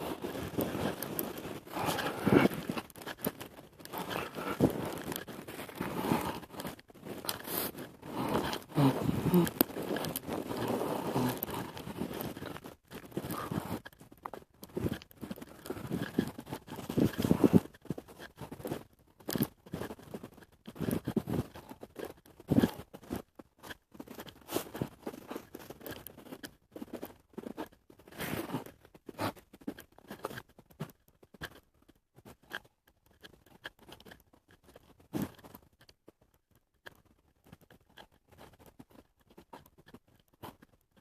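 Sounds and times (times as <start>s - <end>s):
crunching and scraping: 0.0s - 41.0s.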